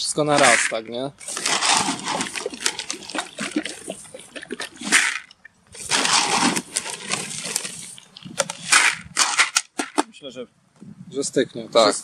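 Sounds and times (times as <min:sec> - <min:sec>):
bait rustling and clattering in buckets: 0:00.2 - 0:10.1.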